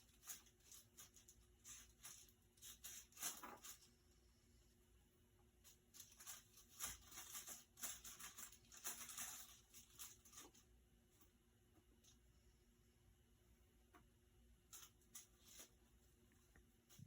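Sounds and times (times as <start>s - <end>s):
faint rustling and scratching: 0.0s - 17.0s.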